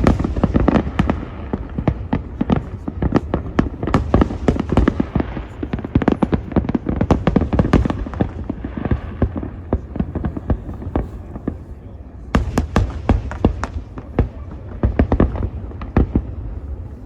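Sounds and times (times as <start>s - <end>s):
distant fireworks bangs and crackles: 0.0s - 17.0s.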